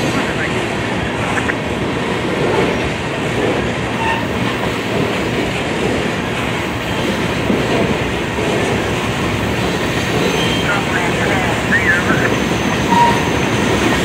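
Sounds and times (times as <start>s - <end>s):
freight train rumbling past: 0.0s - 14.0s
train cars clattering: 0.0s - 14.0s.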